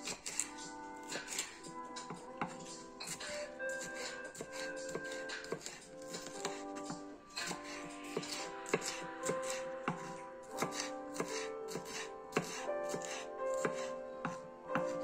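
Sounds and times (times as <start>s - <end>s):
knife slicing on wooden board: 0.0s - 15.0s.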